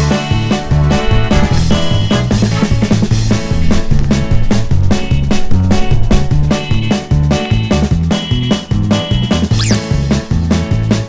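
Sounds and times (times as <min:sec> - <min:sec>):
upbeat music with drums and bass: 0:00.0 - 0:11.0.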